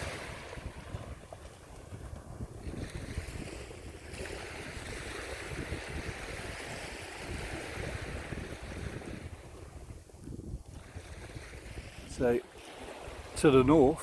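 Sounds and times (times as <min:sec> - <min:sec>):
small waves breaking on sand: 0:00.0 - 0:14.0
wind buffeting microphone: 0:00.0 - 0:14.0.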